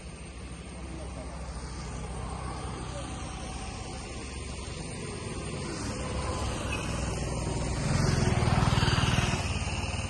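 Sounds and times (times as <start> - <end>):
vehicle engine pulsing drone: 0.0 - 10.0.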